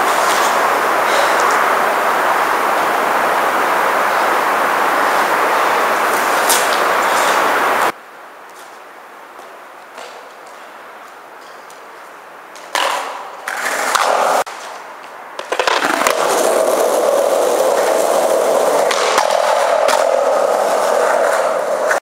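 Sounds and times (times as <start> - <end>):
skateboard wheels rolling on asphalt: 0.0 - 22.0.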